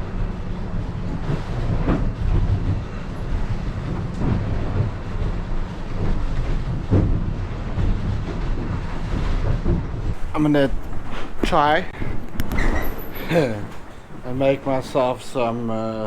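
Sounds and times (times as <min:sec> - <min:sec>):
boat rumble and rush: 0:00.0 - 0:16.0
wind on microphone: 0:00.8 - 0:14.8.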